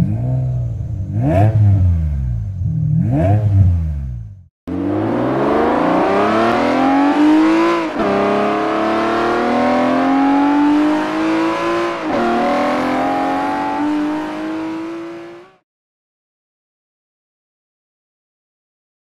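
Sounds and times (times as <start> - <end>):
sports car engine accelerating: 0.0 - 15.6.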